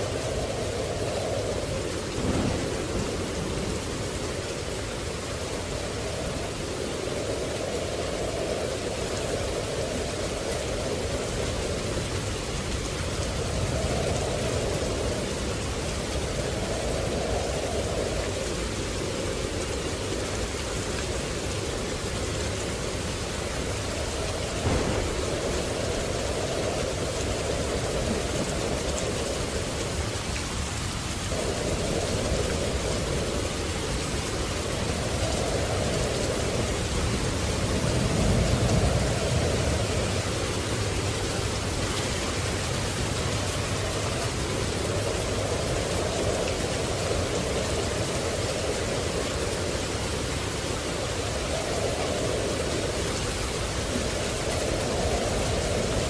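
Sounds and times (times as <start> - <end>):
heavy rain pouring: 0.0 - 56.0
low rumble of thunder: 0.0 - 56.0.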